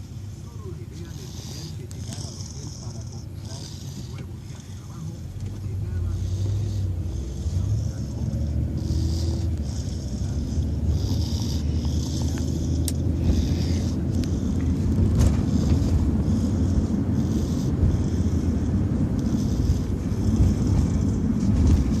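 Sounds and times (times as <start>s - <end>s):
steady low rumble: 0.0s - 22.0s
baby snoring: 0.6s - 22.0s.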